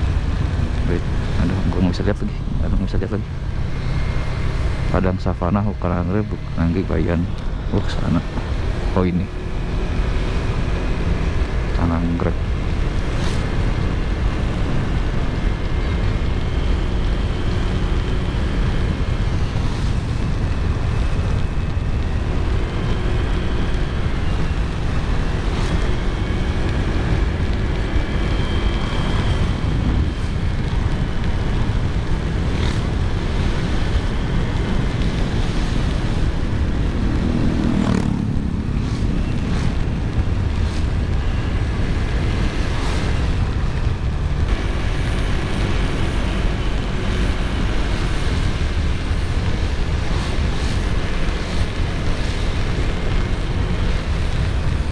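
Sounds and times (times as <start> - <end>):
motorcycle engine: 0.0 - 54.9
wind rush over microphone: 0.0 - 54.9.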